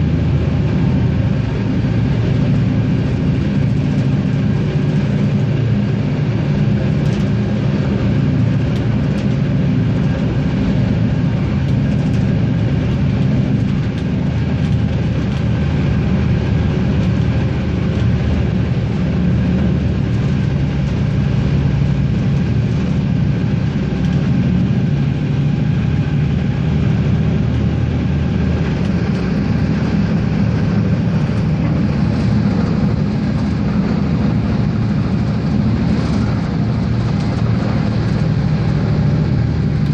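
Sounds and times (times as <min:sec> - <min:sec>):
diesel railcar engine drone: 0:00.0 - 0:39.9
train rolling noise: 0:00.0 - 0:39.9.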